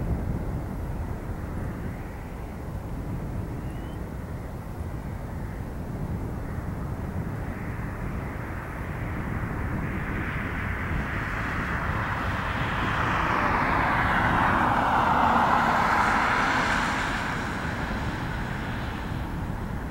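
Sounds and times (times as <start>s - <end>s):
jet engines at takeoff: 0.0s - 19.9s.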